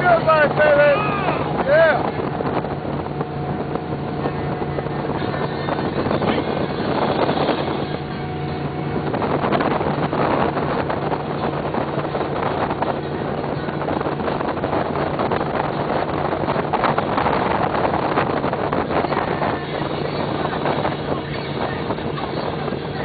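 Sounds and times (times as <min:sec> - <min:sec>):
powerboat engine drone: 0:00.0 - 0:23.0
rushing water: 0:00.0 - 0:23.0
wind buffeting microphone: 0:00.0 - 0:23.0.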